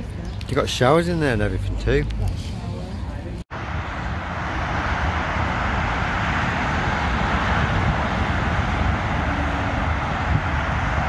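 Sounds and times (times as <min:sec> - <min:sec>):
road and vehicle noise: 0:00.0 - 0:11.0.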